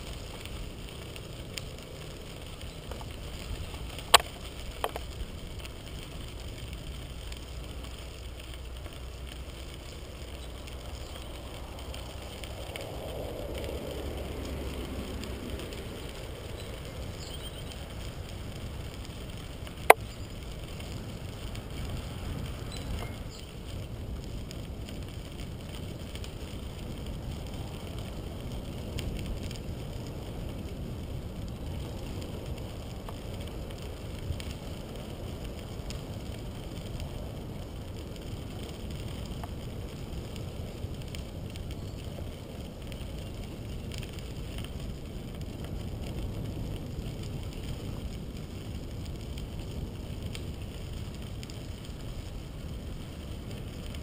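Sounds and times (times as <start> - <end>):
bicycle tyres rolling on gravel: 0.0 - 54.0
wind noise on microphone: 0.0 - 54.0.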